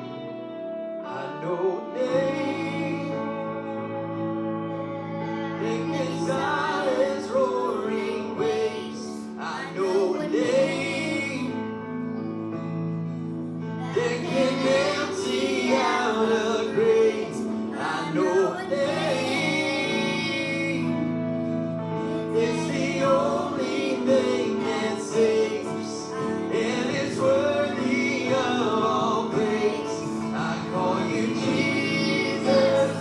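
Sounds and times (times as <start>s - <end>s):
sustained instrumental accompaniment: 0.0s - 33.0s
group singing a hymn: 1.1s - 12.3s, 13.7s - 33.0s.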